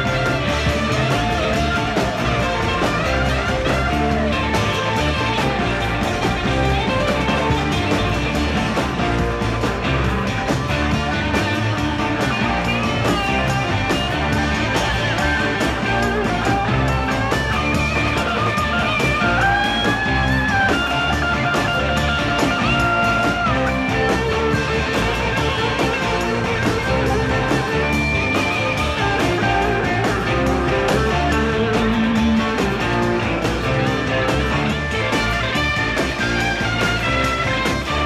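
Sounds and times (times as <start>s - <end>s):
lead guitar bending notes: 0.0s - 38.0s
live rock band playing: 0.0s - 38.0s.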